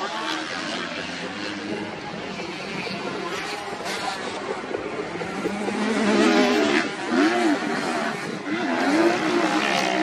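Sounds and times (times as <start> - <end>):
motocross engines revving: 0.0 - 10.0.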